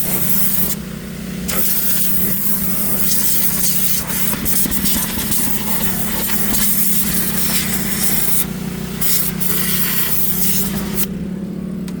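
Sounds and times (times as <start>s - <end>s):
pressure washer jet hissing: 0.0s - 11.2s
pressure washer motor running: 0.0s - 12.0s.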